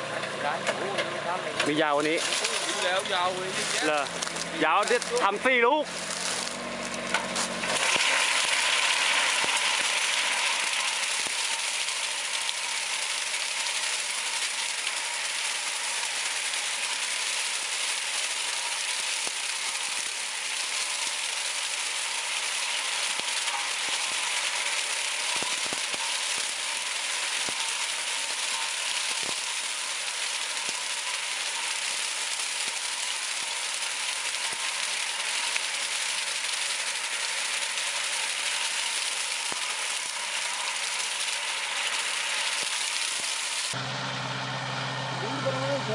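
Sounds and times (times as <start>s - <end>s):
cane cutting machine running: 0.0s - 45.9s.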